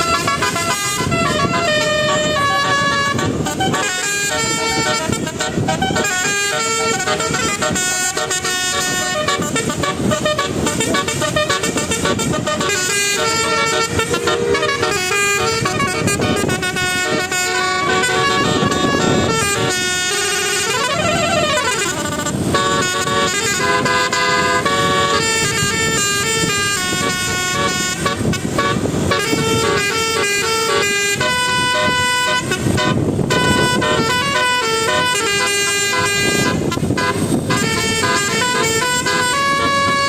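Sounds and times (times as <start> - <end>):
horns sounding pitched notes: 0.0 - 40.0.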